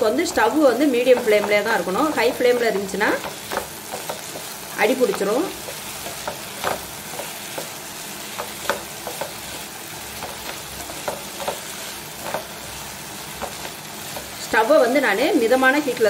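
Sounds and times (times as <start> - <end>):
spatula scraping and knocking pan: 0.0 - 14.9
potatoes sizzling in oil: 0.0 - 16.0.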